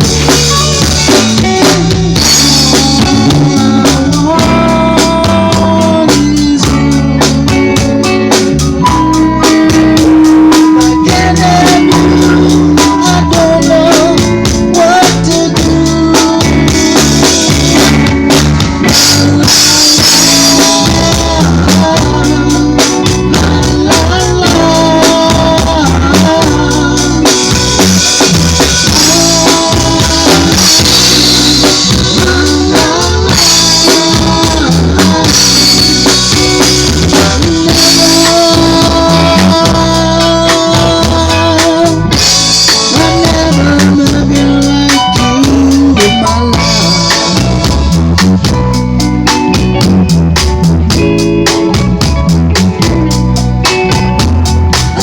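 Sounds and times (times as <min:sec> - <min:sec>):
band playing: 0:00.0 - 0:55.0
drum kit beat: 0:00.0 - 0:55.0.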